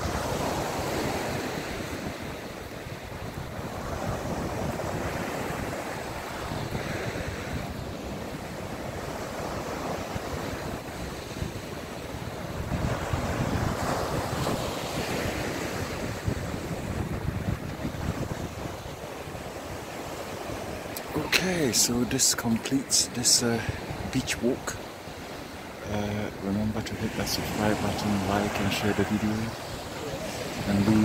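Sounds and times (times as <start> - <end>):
wind buffeting microphone: 0.0 - 21.4, 23.6 - 31.0
waves breaking on shore: 0.0 - 31.0.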